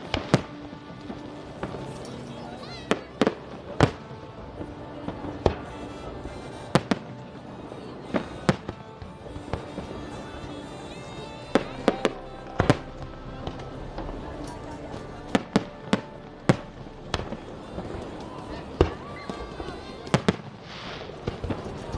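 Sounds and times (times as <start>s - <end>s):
background music: 0.0s - 21.9s
fireworks bangs: 0.0s - 21.9s.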